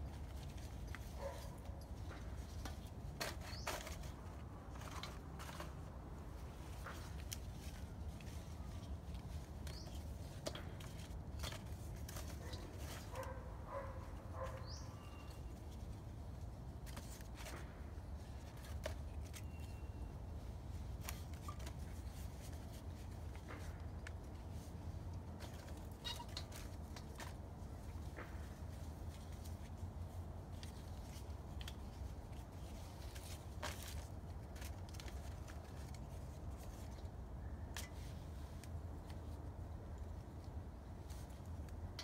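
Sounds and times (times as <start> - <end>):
paper and sticks rustling: 0.0 - 42.0.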